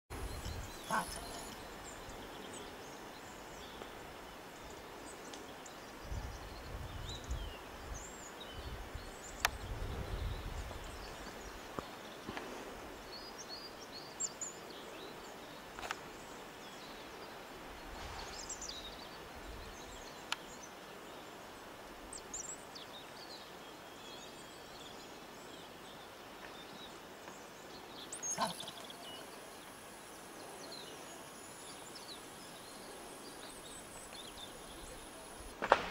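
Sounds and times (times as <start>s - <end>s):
steady hiss: 0.1s - 35.9s.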